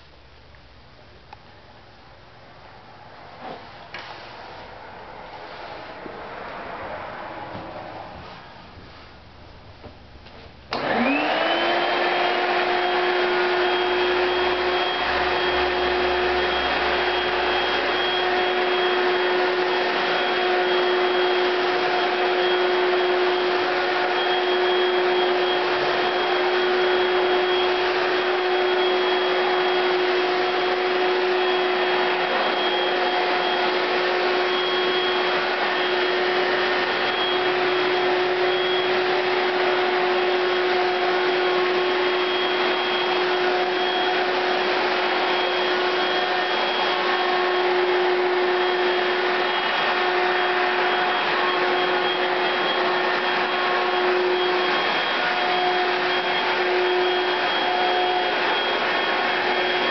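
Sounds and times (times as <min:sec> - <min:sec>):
vacuum cleaner motor whine: 0:03.4 - 0:09.2, 0:09.8 - 0:59.9.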